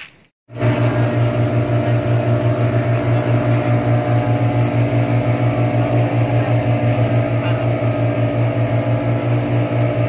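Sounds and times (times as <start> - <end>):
boat engine throbbing: 0.5 - 10.0.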